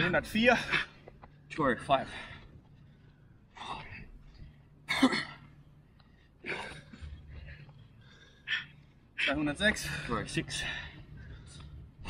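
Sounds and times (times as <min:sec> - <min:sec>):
men breathing heavily: 0:00.0 - 0:12.0.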